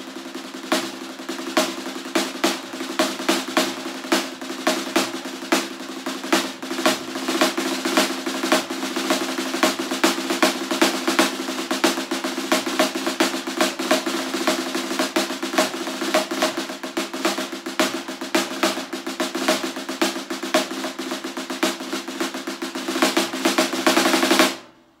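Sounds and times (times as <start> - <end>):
snare drum rolls: 0.0 - 25.0.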